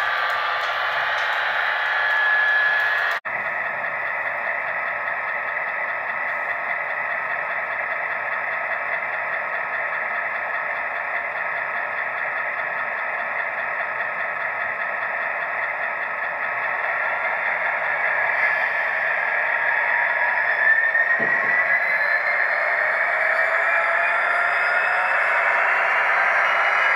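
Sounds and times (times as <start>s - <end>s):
model locomotive running hum: 0.0s - 26.9s.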